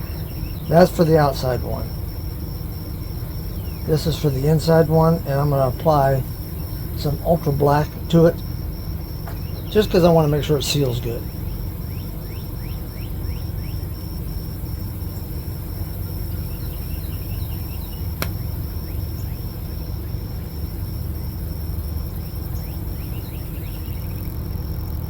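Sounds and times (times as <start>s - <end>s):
bird chirps: 0.0s - 2.2s, 2.8s - 14.0s, 15.0s - 20.5s, 22.2s - 24.9s
insect trilling: 0.0s - 25.0s
low outdoor rumble: 0.0s - 25.0s.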